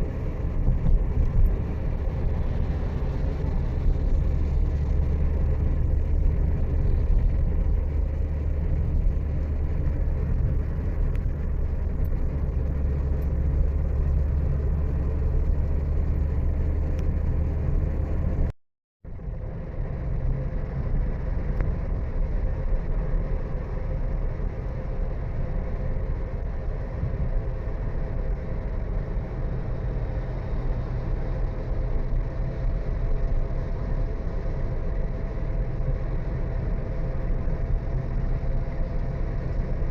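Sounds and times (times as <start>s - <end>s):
road vehicle rumble: 0.0s - 39.9s.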